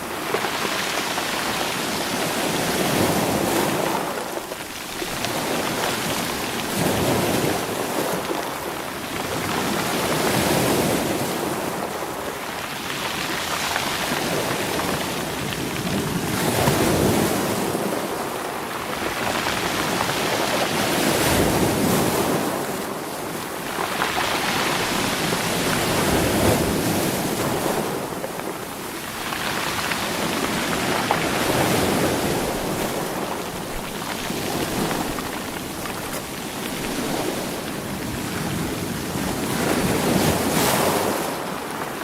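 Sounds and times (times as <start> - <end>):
waves rolling rocks on shore: 0.0 - 42.0.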